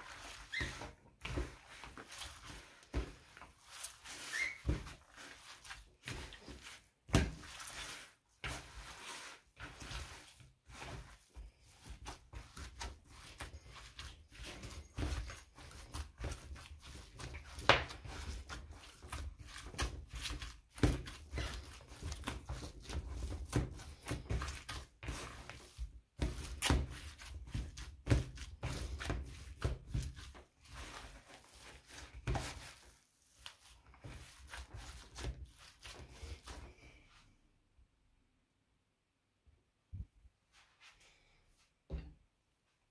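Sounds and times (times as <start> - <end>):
hands squelching minced meat: 0.0 - 37.0.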